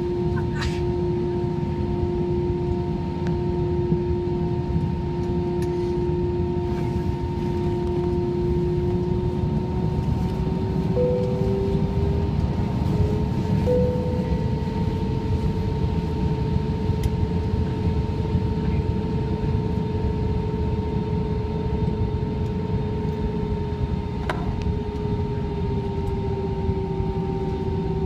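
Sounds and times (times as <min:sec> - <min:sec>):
jet engine rumble in cabin: 0:00.0 - 0:28.0
jet engine whine rising: 0:00.0 - 0:28.0.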